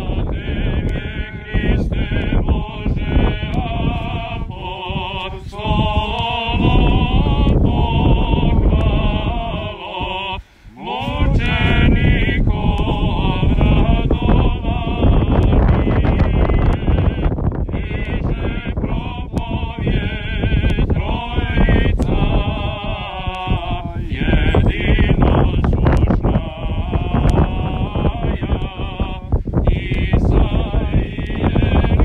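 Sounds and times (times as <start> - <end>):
men chanting a hymn: 0.0 - 32.0
wind rumbling on microphone: 0.0 - 32.0.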